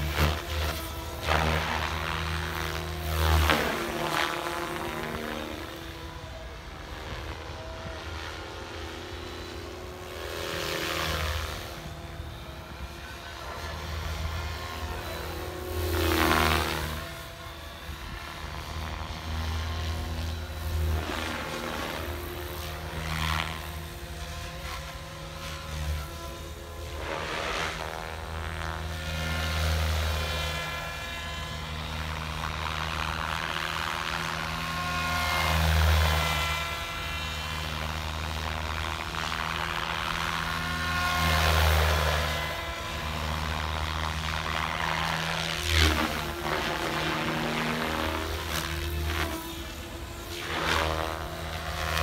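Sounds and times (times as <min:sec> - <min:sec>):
electric motor whine: 0:00.0 - 0:52.0
rc helicopter rotor buzz: 0:00.0 - 0:52.0.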